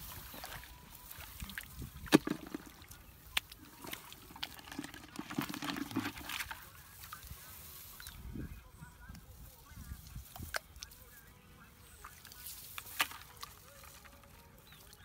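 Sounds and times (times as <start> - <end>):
muddy water sloshing and splashing: 0.0 - 8.3, 9.3 - 15.0.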